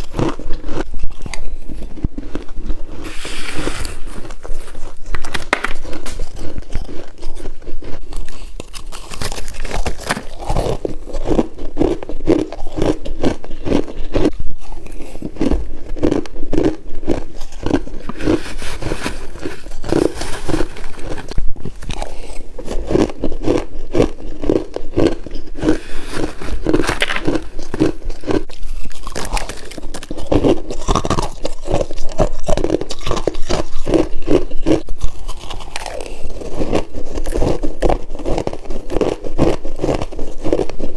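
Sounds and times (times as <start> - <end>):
chewing frost crunching: 0.0 - 40.9.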